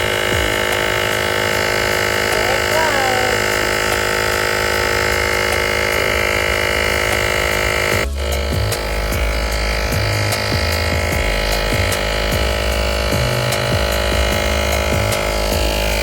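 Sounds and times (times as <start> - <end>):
electric air compressor humming: 0.0 - 16.0.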